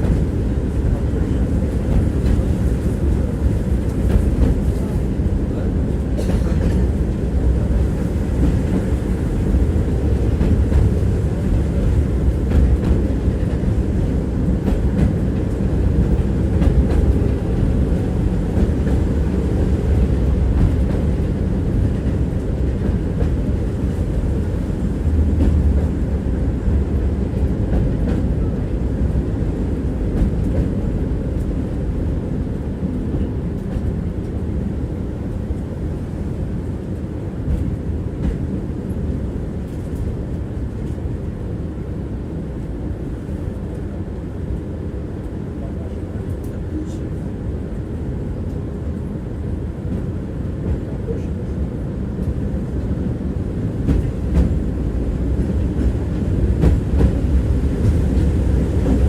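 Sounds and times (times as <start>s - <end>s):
tram wheels rumbling on rail: 0.0s - 59.0s.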